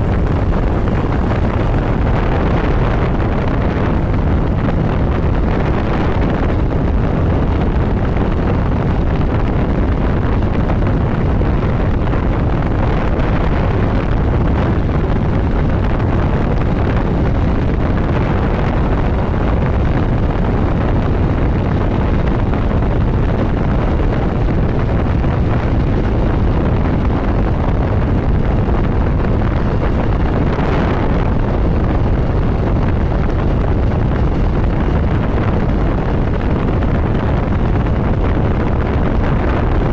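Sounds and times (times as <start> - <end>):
motorcycle engine and road noise: 0.0 - 39.9
wind rush on microphone: 0.0 - 39.9.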